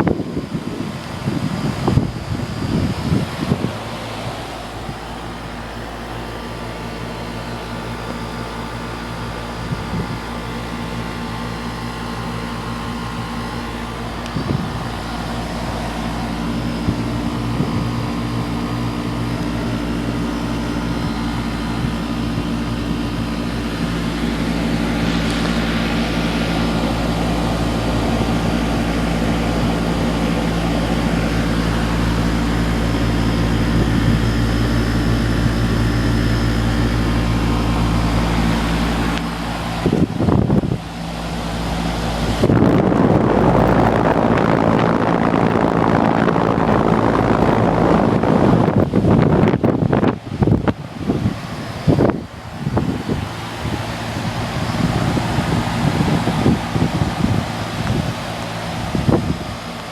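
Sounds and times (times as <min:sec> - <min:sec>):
air conditioner condenser humming: 0:00.0 - 0:59.9.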